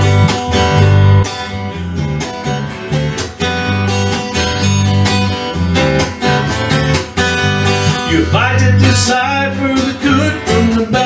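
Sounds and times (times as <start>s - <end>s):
bass line: 0.0s - 11.0s
strummed acoustic guitar: 0.0s - 11.0s.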